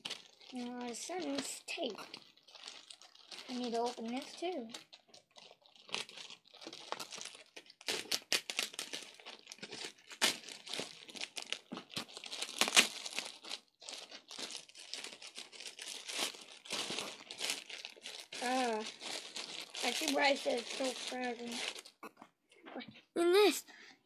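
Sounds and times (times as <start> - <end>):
packaging being torn and crinkled: 0.0 - 22.0.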